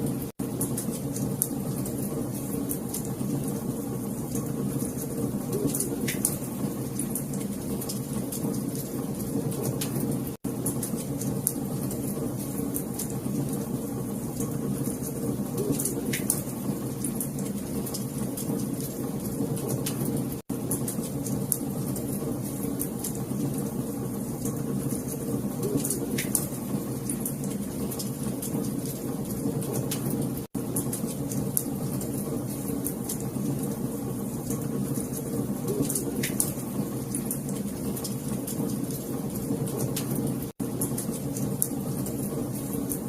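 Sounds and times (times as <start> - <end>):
fire crackling in fireplace: 0.0 - 43.0.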